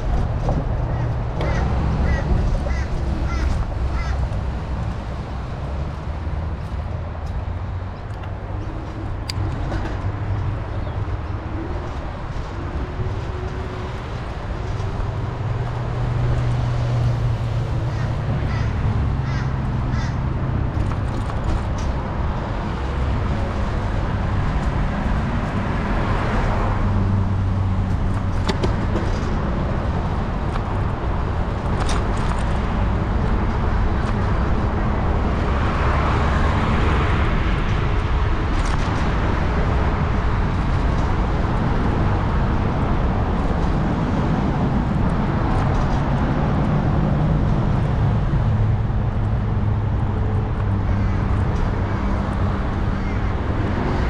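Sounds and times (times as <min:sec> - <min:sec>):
road traffic passing: 0:00.0 - 0:54.0
wind rumbling on microphone: 0:00.0 - 0:54.0.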